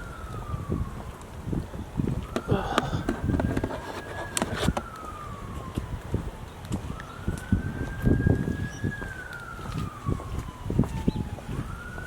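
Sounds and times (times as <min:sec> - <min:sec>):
siren wailing: 0:00.0 - 0:12.0.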